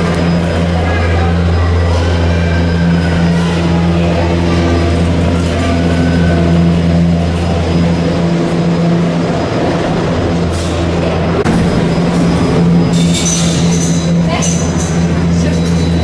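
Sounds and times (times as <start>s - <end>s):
gondola lift machinery rumbling: 0.0s - 16.0s.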